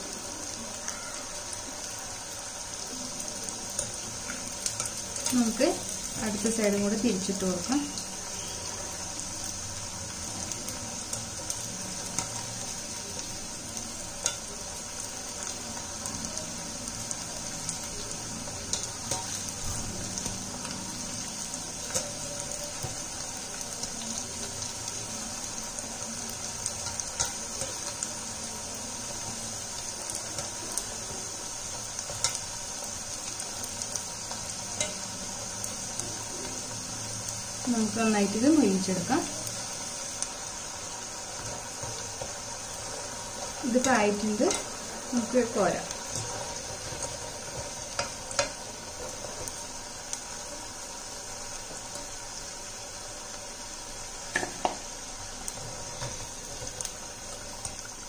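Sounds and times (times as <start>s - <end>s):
oil sizzling with sharp pops: 0.0s - 58.0s.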